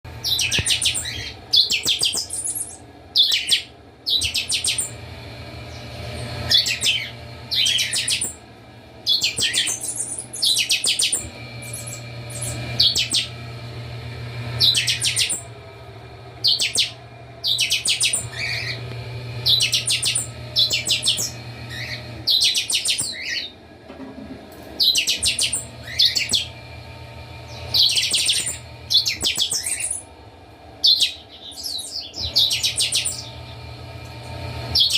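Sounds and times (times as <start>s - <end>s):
songbirds singing: 0.1s - 15.6s, 16.4s - 23.6s, 24.8s - 30.2s, 30.8s - 34.9s
steady low hum: 0.1s - 34.9s.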